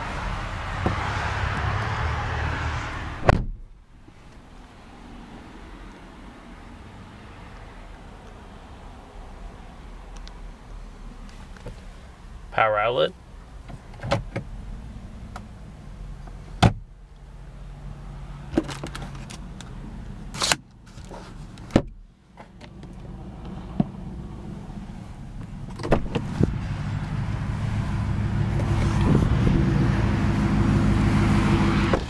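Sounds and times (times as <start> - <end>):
highway traffic engine drone: 0.0 - 32.0
low steady rumble: 0.0 - 32.0.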